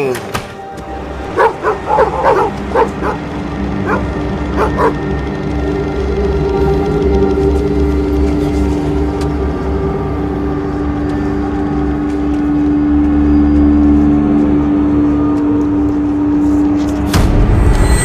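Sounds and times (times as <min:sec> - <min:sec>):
steady low drone: 0:00.6 - 0:18.0.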